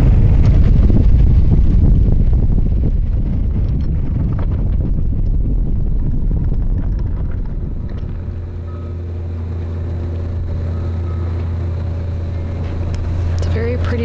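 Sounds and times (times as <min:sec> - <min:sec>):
boat engine humming: 0:00.0 - 0:14.0
wind buffeting microphone: 0:00.0 - 0:14.0.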